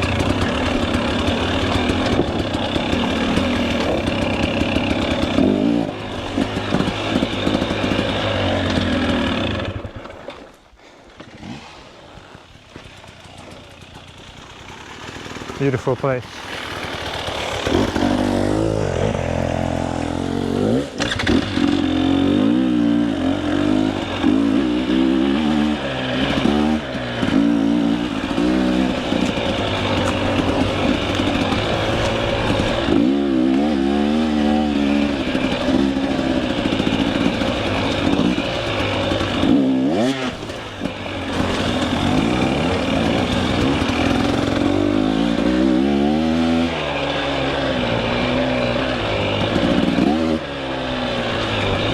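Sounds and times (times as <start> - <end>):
dirt bike engine revving: 0.0 - 10.2, 12.6 - 51.9.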